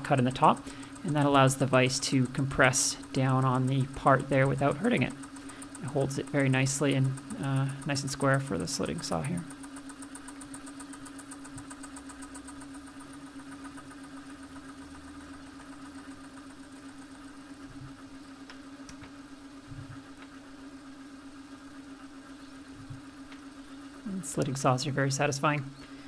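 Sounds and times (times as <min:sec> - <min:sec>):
milling machine motor hum: 0:00.0 - 0:26.0.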